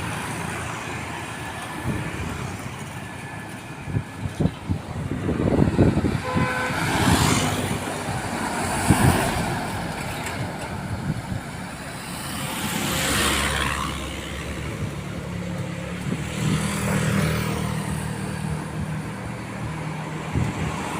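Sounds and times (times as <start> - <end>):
vehicles passing close by: 0.0 - 20.9.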